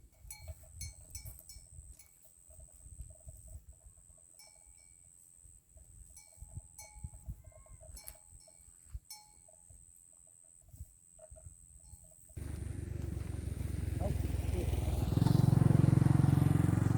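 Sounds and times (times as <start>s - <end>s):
livestock bells clinking: 0.0s - 14.2s.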